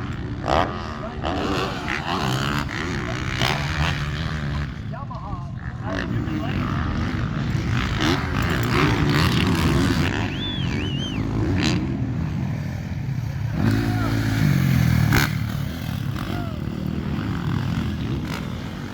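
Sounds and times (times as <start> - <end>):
dirt bike engines revving: 0.0 - 18.9.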